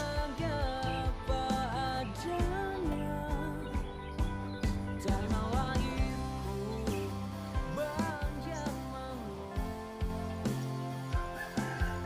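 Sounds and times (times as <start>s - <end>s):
pop song with singing: 0.0s - 12.0s.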